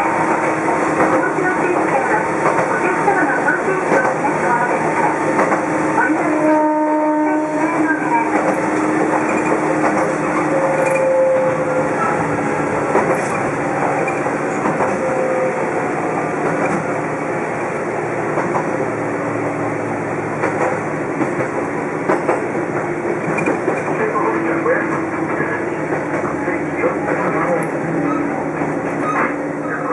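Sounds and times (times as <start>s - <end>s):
train running noise from inside: 0.0s - 29.9s.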